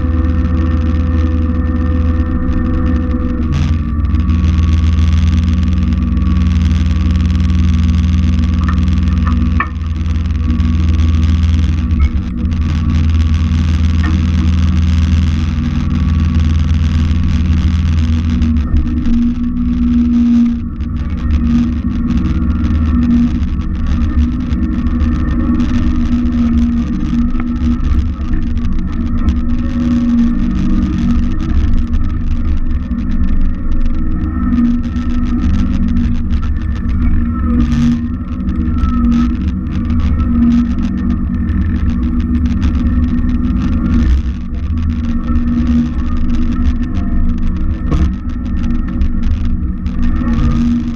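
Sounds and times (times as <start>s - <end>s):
crackle of small clicks: 0.0s - 50.9s
garden tractor engine running: 0.0s - 50.9s.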